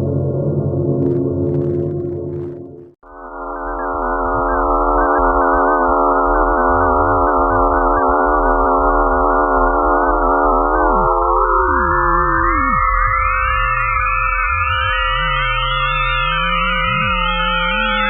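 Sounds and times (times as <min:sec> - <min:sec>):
electronic tone chord: 0:00.0 - 0:18.0
low hum: 0:00.0 - 0:18.0.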